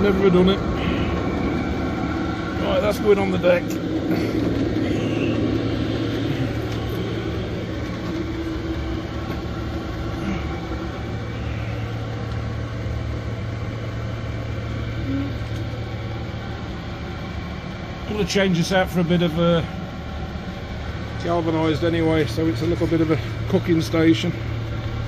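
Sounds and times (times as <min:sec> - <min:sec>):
air heater fan hum: 0:00.0 - 0:25.0.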